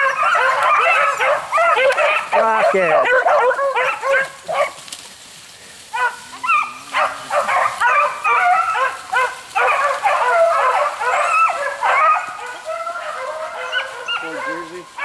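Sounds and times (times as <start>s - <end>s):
beagles baying: 0.0s - 4.9s, 5.8s - 15.0s.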